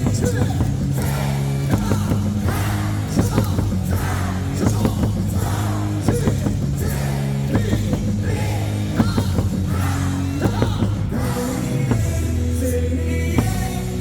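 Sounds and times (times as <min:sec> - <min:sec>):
rock music over loudspeakers: 0:00.0 - 0:14.0.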